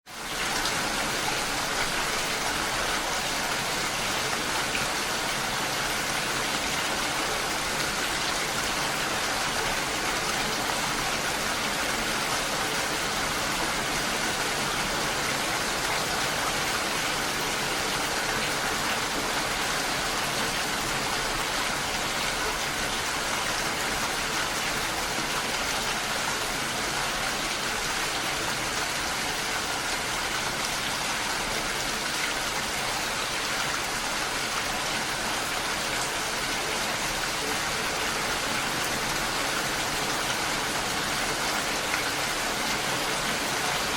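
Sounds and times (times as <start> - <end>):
steady rain: 0.0 - 43.9
waterfall rushing: 0.1 - 43.9.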